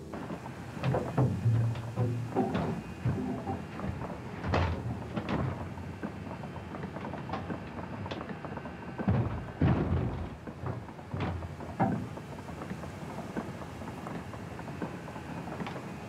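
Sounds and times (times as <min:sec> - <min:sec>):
heavy thuds of water on hull: 0:00.7 - 0:07.6, 0:09.0 - 0:15.0.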